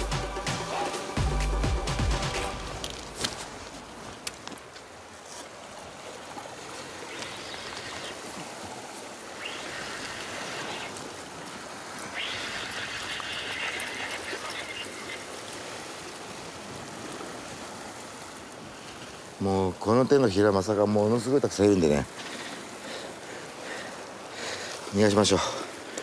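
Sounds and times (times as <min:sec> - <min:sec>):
sea water washing over rocks: 0:01.9 - 0:26.0.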